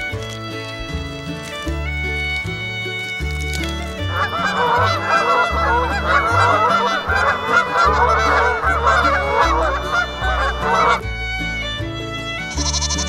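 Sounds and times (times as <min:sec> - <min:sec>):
geese honking: 0:02.1 - 0:13.0.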